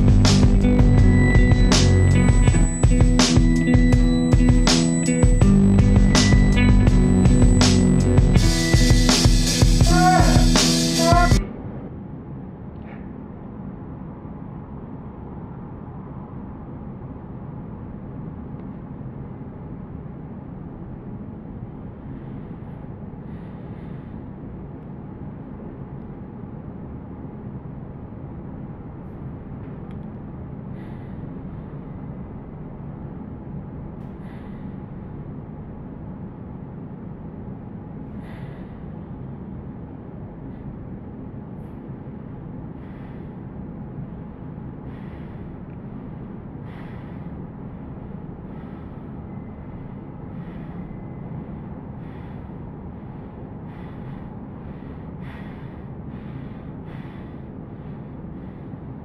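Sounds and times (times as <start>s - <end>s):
low background rumble: 0.0s - 59.0s.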